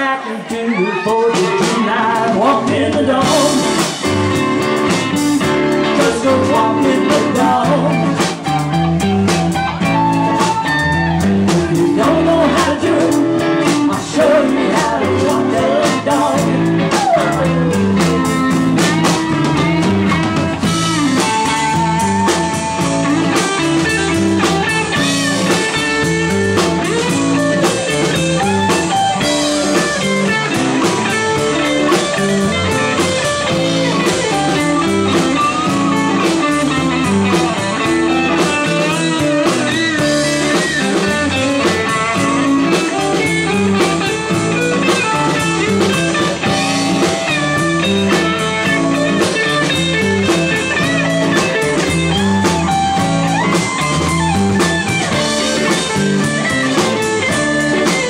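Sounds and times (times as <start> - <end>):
electric guitars: 0.0 - 58.0
drum kit: 0.4 - 58.0.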